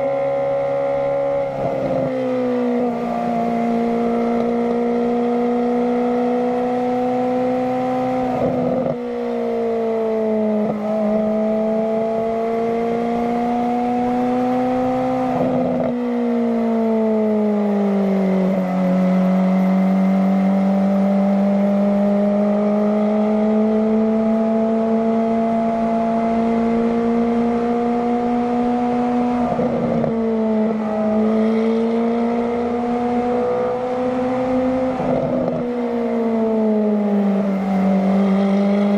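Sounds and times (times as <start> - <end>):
car engine howling under acceleration: 0.0 - 38.9.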